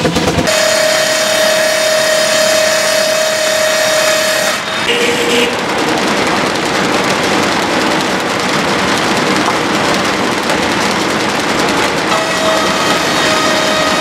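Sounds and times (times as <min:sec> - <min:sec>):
machinery running: 0:00.0 - 0:14.0.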